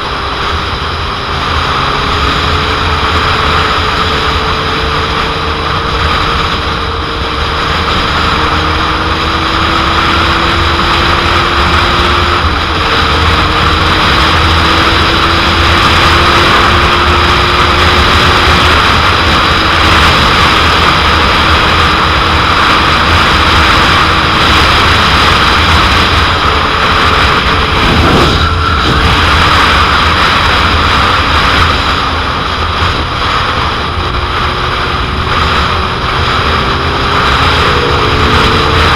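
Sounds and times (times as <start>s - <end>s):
motorcycle engine: 0.0s - 38.9s
wind noise on microphone: 0.0s - 38.9s.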